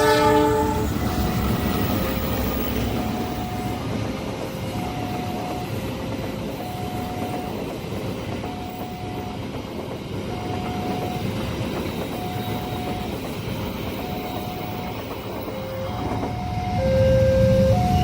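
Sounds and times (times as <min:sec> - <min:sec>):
train rumbling past: 0:00.0 - 0:18.0
level crossing alarm beeping: 0:01.2 - 0:18.0.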